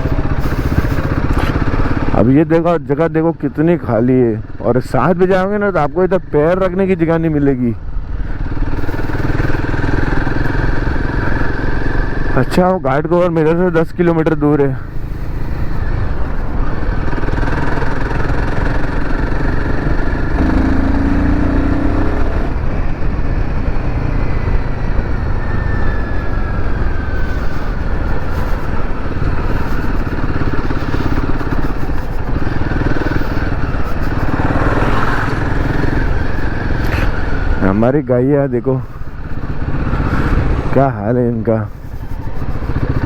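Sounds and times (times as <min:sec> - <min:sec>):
motorcycle engine running: 0:00.0 - 0:07.0, 0:07.8 - 0:37.9, 0:38.6 - 0:43.0.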